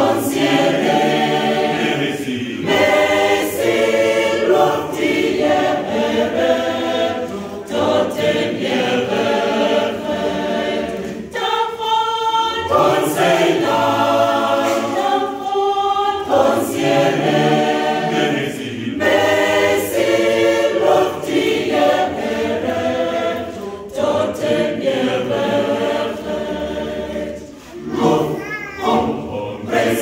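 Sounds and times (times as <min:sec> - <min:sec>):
mixed choir singing: 0:00.0 - 0:30.0.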